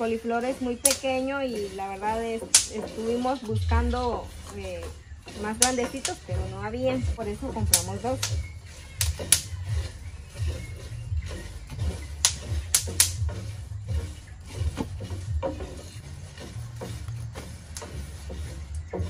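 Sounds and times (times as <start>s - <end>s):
low steady rumble: 0.1s - 19.0s.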